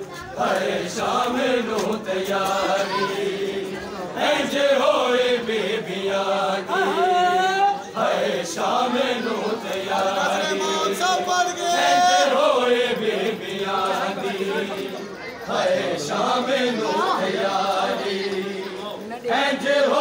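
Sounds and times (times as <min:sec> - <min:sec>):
men chanting a lament: 0:00.4 - 0:20.0.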